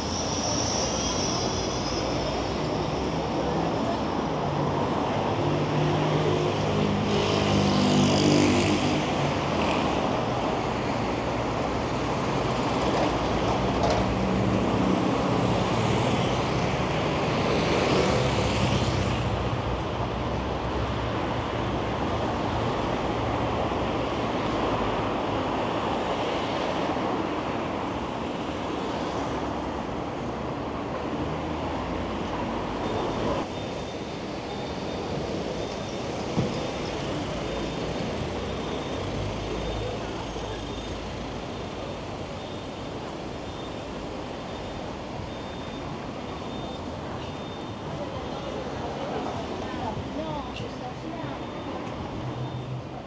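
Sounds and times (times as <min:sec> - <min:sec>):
traffic hum: 0:00.0 - 0:53.0.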